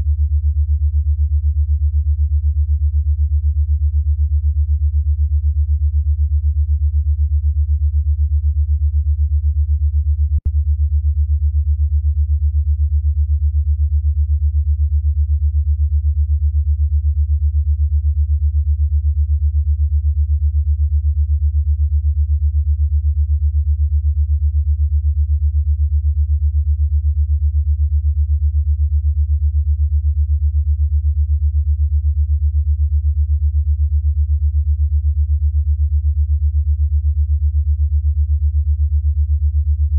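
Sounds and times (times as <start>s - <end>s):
pulsing low synthesized tone: 0.0s - 39.9s.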